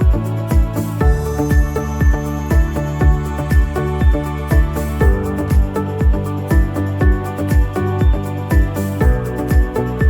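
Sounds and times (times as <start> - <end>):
low drum beat: 0.0 - 10.0.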